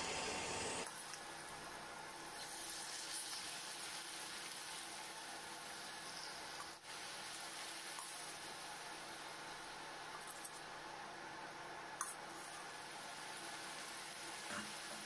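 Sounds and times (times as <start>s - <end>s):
prawns sizzling in a pan: 0.0s - 10.9s, 12.0s - 15.0s.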